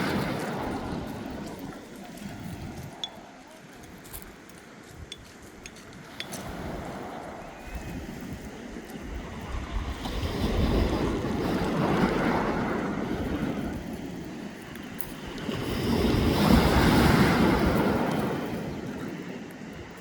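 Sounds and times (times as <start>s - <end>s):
surf breaking on beach: 0.0s - 3.4s, 6.0s - 20.0s
wind buffeting microphone: 0.0s - 20.0s.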